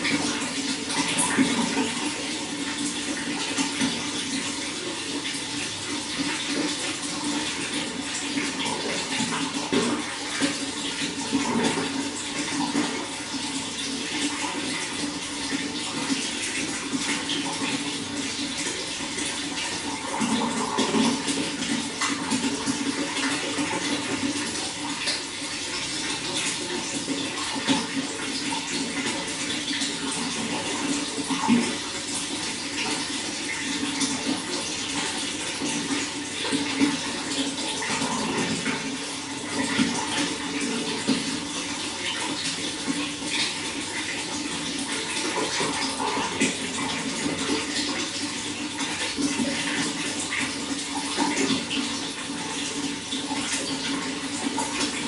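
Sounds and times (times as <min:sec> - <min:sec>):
running water splashing: 0:00.0 - 0:55.0.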